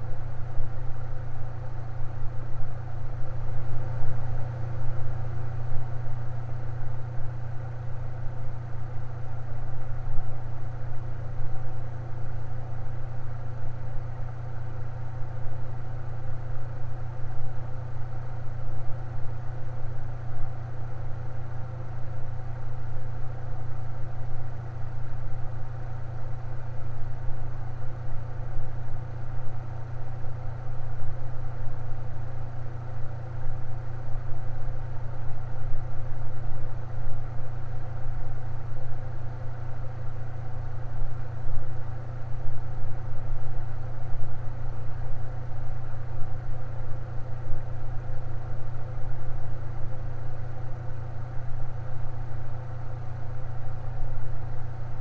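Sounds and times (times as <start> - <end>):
electric fan humming: 0.0 - 55.0.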